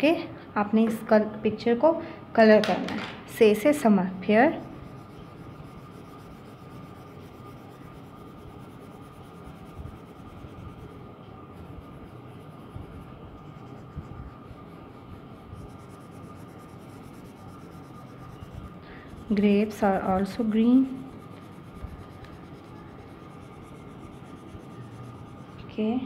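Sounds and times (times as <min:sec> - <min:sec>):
pencil scratching on paper: 0:04.3 - 0:25.7.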